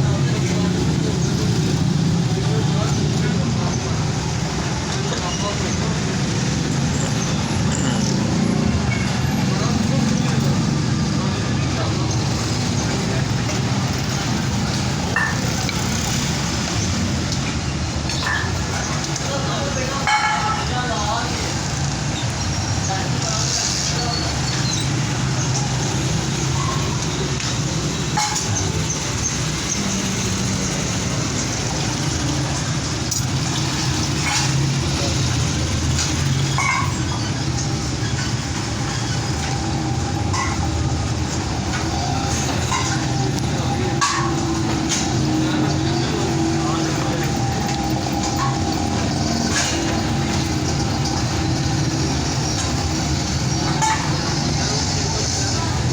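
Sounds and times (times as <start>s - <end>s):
road traffic engine hum: 0.0s - 55.9s.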